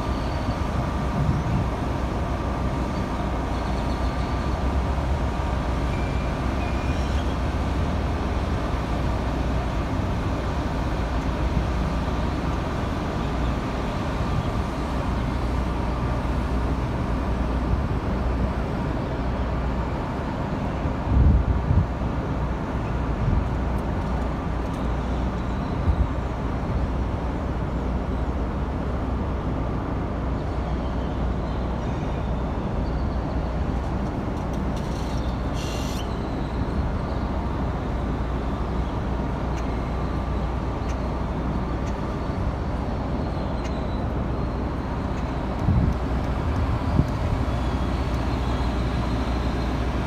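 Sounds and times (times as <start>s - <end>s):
diesel locomotive engine rumbling: 0.0s - 50.0s.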